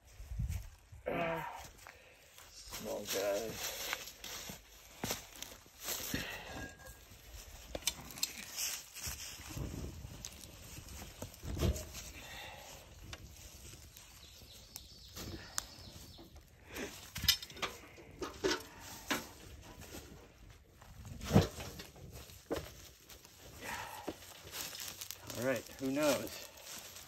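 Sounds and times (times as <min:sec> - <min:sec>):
newspaper burning with crackles: 0:02.5 - 0:17.6, 0:18.7 - 0:27.0.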